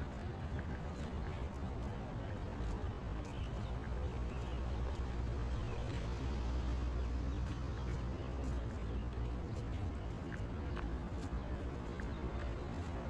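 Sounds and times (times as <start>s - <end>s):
faint footstep ticks: 0.0s - 13.0s
steady low street rumble: 0.0s - 13.0s.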